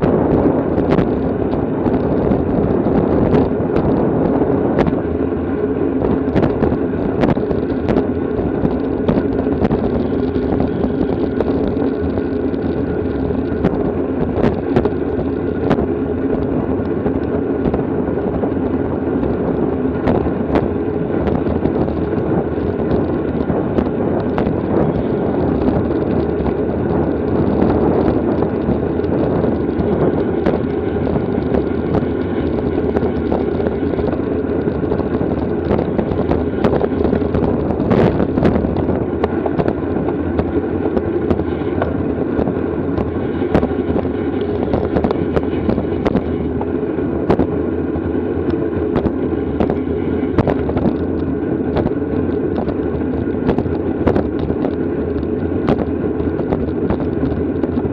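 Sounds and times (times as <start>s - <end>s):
bicycle tyre noise: 0.0s - 57.9s
wind rushing: 0.0s - 57.9s.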